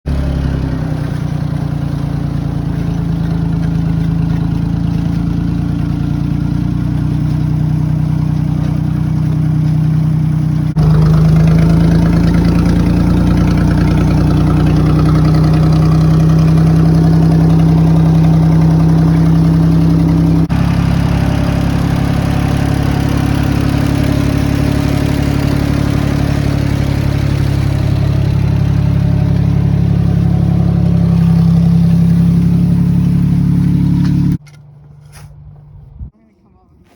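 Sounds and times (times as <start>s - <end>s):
tractor engine running: 0.0s - 36.1s.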